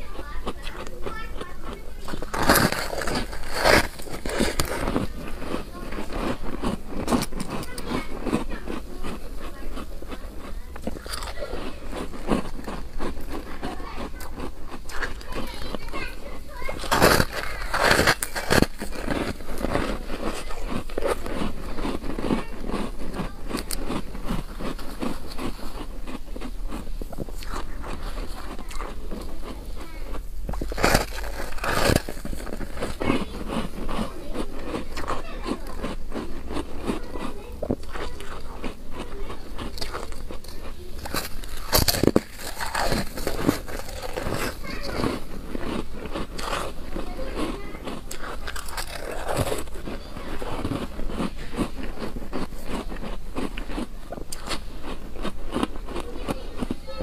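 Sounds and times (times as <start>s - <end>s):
ice being crunched by teeth: 0.0s - 57.0s.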